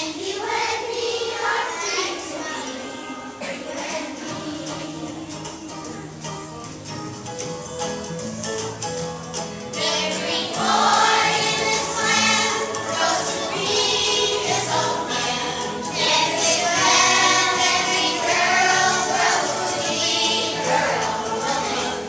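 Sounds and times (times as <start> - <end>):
children's choir singing: 0.0 - 6.6, 9.7 - 22.0
instrumental accompaniment: 0.0 - 22.0.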